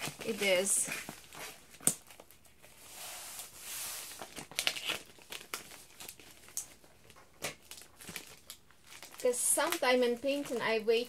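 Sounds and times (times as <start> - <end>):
plastic mailer crinkling: 0.0 - 11.0.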